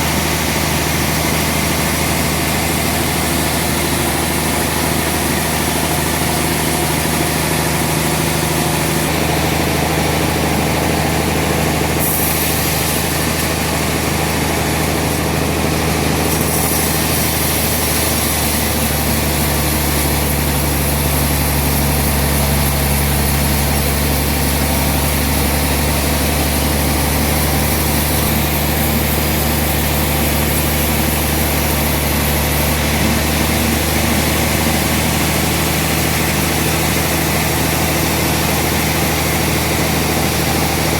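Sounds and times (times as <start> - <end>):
low engine hum: 0.0 - 40.9
saw hissing through log: 0.0 - 40.9.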